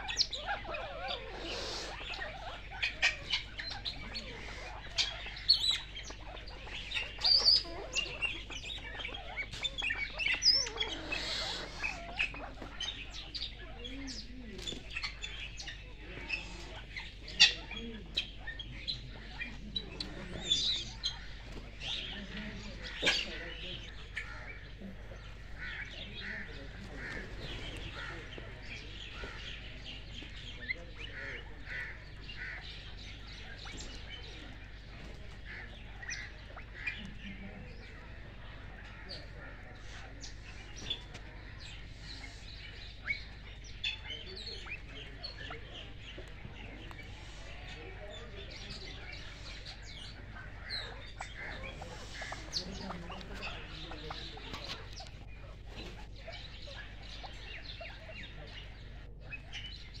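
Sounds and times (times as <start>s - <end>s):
birds chirping and calling: 0.0s - 60.0s
pheasants clucking: 0.0s - 60.0s.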